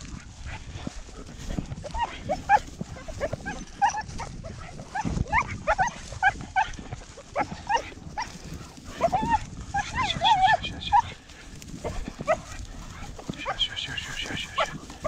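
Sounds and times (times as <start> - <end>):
hounds yelping: 0.5 - 15.0.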